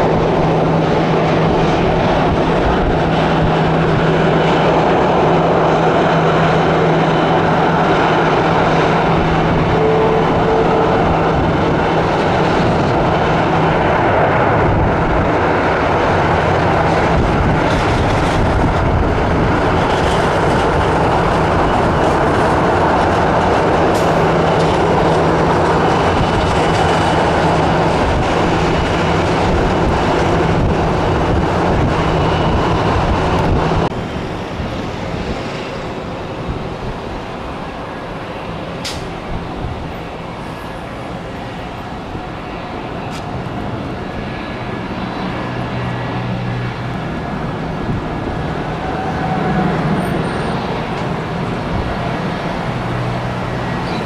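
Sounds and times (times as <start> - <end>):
jet airliner engines landing: 0.0 - 54.0.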